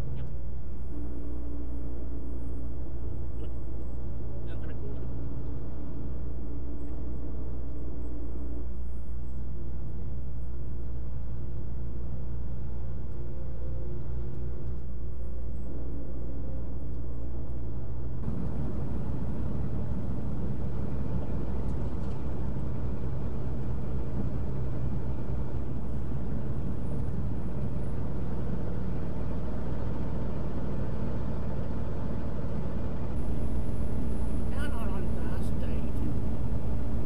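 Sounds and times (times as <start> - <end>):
truck engine and tyres droning: 0.0 - 37.0.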